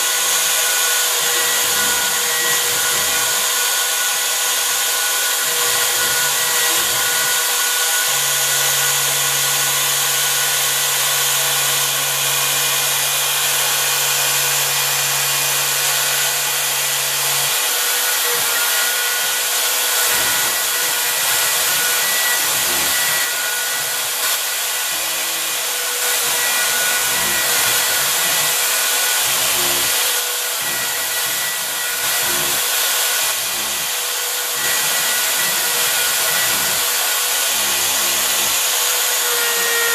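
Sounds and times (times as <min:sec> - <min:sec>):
router spindle carving wood: 0:00.0 - 0:39.9.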